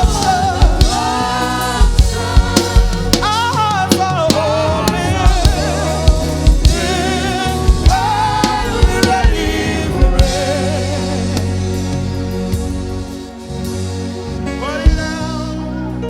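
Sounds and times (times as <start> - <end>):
drum kit hits: 0.0 - 14.0
band with bass and keys: 0.0 - 16.0
gospel singing: 0.0 - 16.0.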